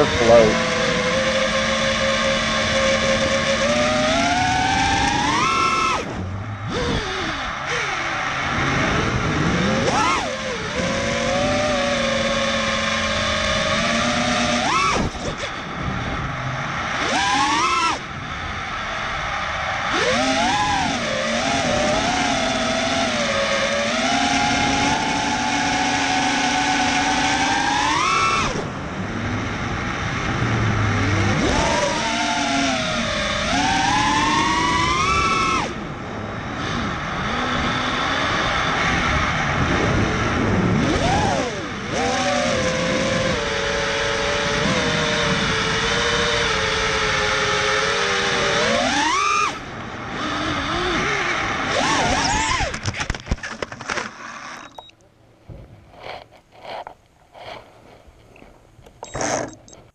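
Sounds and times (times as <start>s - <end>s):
quadcopter motors whining: 0.0s - 55.0s, 58.3s - 59.9s.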